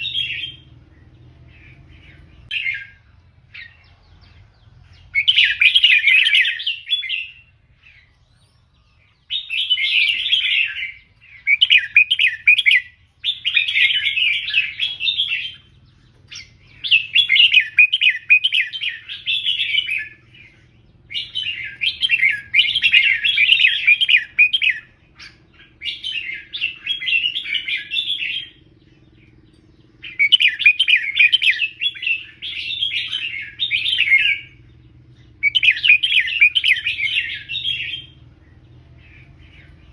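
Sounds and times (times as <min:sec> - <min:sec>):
bulbul singing warbled phrases: 0:00.0 - 0:39.9.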